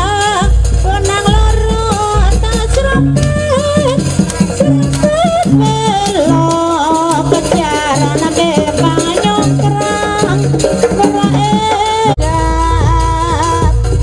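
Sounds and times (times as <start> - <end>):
heavy bass: 0.0 - 7.4, 8.8 - 14.0
rattling percussion: 0.0 - 14.0
repeating drum pattern: 0.0 - 14.0.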